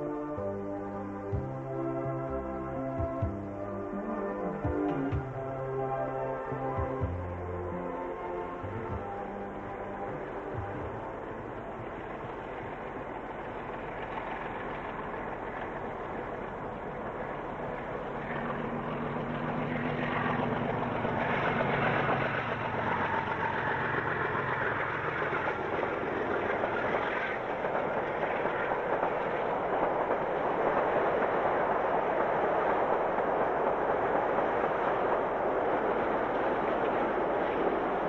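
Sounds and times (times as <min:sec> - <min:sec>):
freight train noise: 0:00.0 - 0:38.0
locomotive engine under load: 0:00.0 - 0:38.0.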